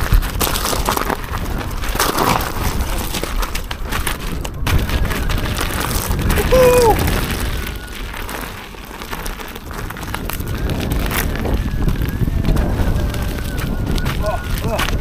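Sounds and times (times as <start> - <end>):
tyre rumbling over rough ground: 0.0 - 15.0
wind buffeting microphone: 0.0 - 15.0.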